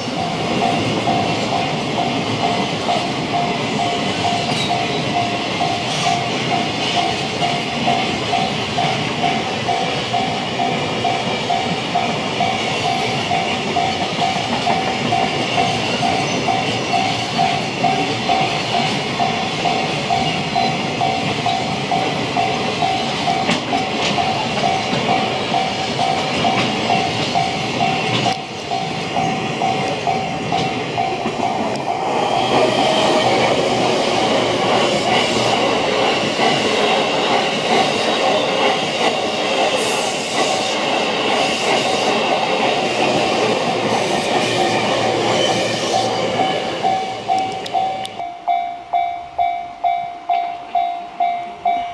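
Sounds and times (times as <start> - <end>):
crossing bell ringing: 0.0 - 51.9
train running past: 0.0 - 51.9.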